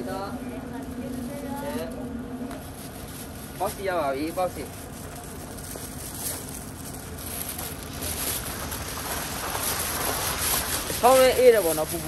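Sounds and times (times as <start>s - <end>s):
street background hum: 0.0s - 12.0s
plastic bag rustling: 0.6s - 12.0s.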